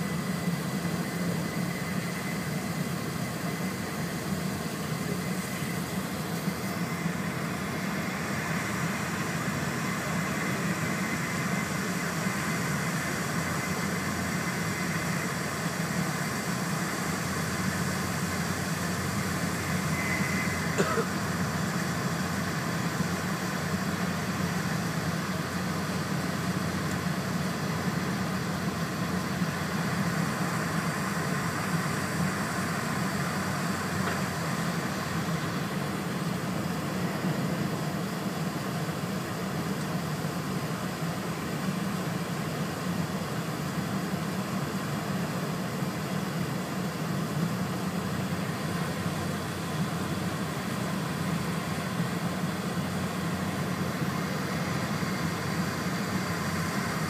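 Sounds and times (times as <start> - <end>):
train running at speed: 0.0 - 57.0.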